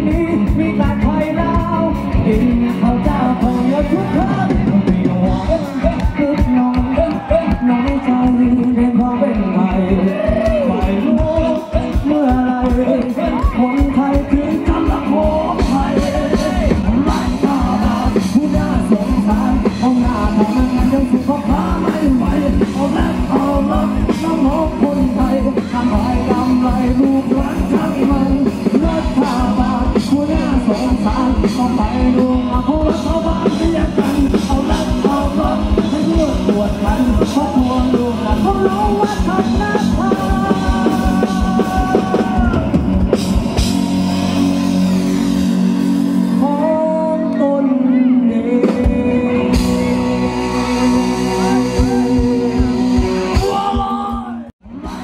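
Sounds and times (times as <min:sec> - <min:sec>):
person singing: 0:00.0 - 0:43.7, 0:45.2 - 0:55.0
drum kit: 0:00.0 - 0:47.1, 0:48.5 - 0:55.0
bass guitar: 0:00.0 - 0:55.0
electric guitar: 0:00.0 - 0:55.0.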